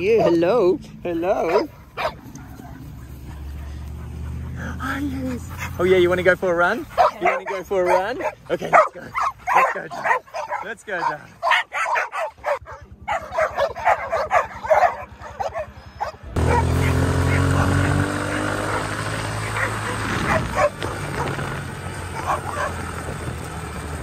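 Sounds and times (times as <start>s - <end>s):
dogs barking and yipping: 0.0s - 24.0s.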